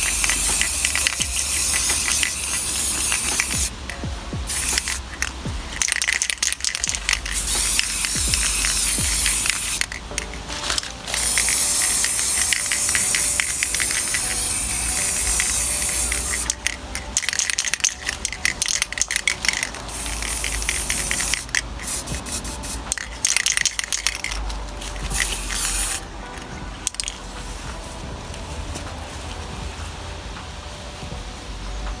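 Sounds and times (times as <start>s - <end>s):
aerosol spray can hissing: 0.0s - 26.0s.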